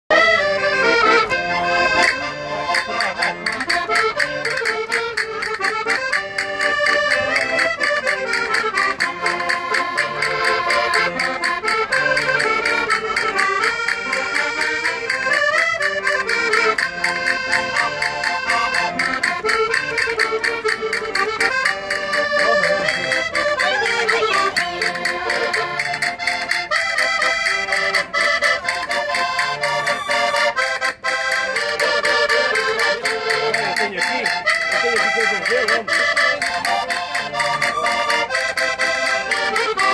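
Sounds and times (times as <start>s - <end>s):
concertina playing folk tune: 0.1s - 39.9s.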